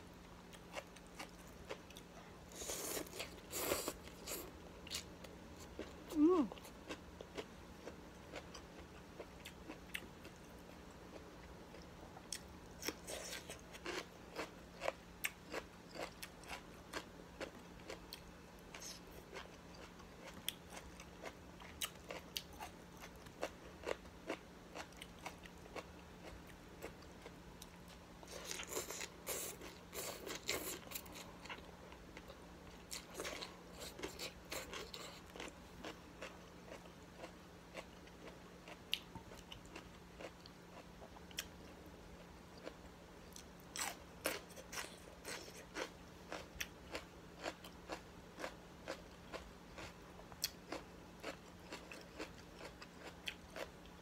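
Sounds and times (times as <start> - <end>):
steady low hum: 0.0 - 54.0
person chewing crisp vegetables: 0.2 - 54.0.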